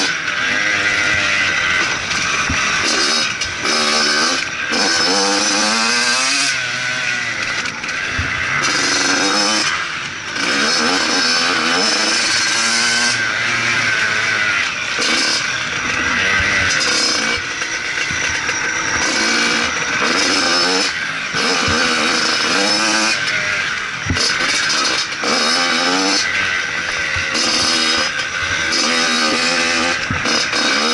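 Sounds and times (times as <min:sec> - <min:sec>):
motocross bike engine revving: 0:00.0 - 0:30.9.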